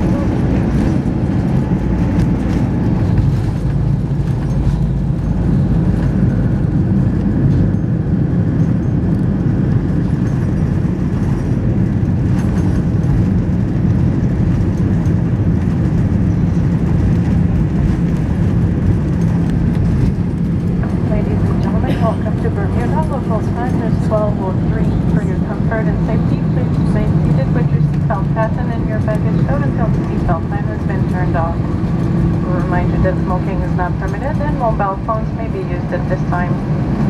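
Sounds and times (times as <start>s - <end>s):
aircraft cabin low rumble: 0.0s - 37.0s.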